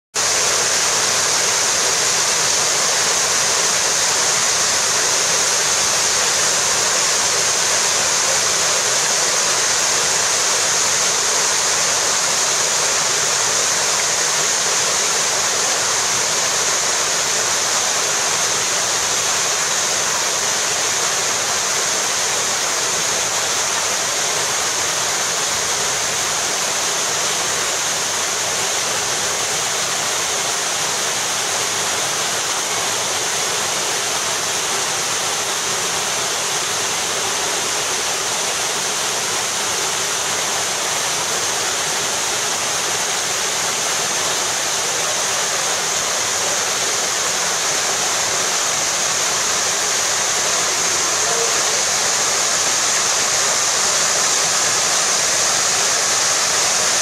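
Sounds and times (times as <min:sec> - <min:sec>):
waterfall pouring into pool: 0:00.2 - 0:57.0.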